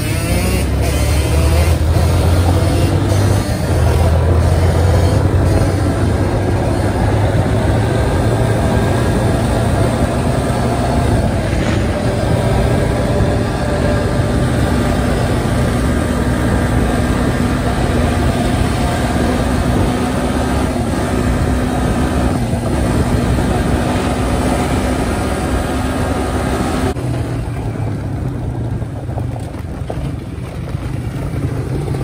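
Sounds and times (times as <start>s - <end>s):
dirt bike engine running: 0.0s - 32.0s
wind rumbling on microphone: 0.0s - 32.0s.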